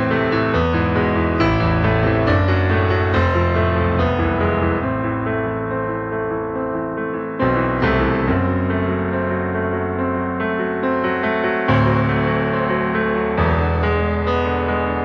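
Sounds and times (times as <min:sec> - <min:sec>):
piano instrumental music: 0:00.0 - 0:15.0.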